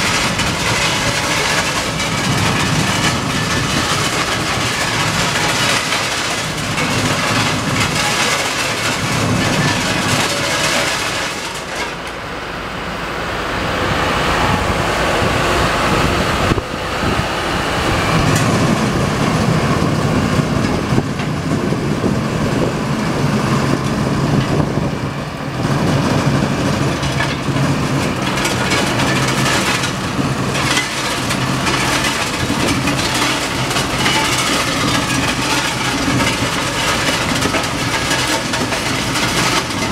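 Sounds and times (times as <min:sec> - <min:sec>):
diesel rail machine running: 0:00.0 - 0:39.9.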